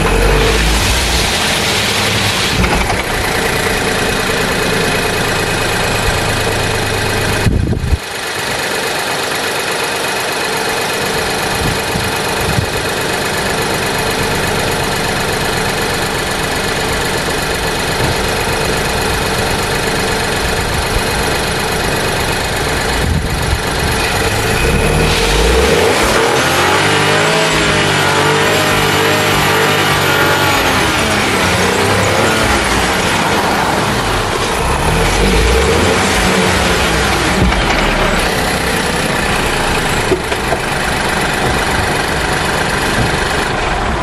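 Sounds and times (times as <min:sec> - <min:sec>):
machine running with loud rush: 0:00.0 - 0:44.0.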